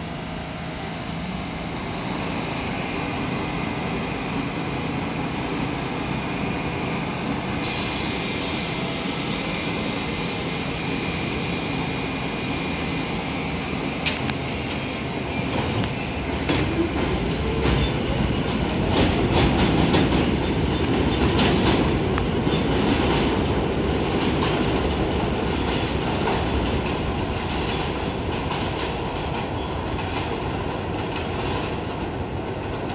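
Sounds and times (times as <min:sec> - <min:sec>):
subway train motors rising: 0:00.0 - 0:32.9.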